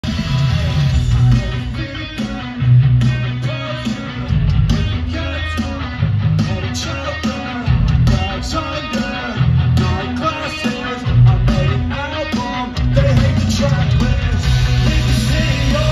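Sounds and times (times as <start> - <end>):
live rock music: 0.0 - 15.9.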